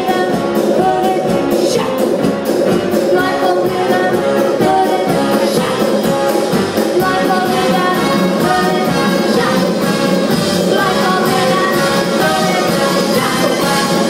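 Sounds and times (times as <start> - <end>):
person singing: 0.0 - 2.4, 3.0 - 14.0
big band playing: 0.0 - 14.0.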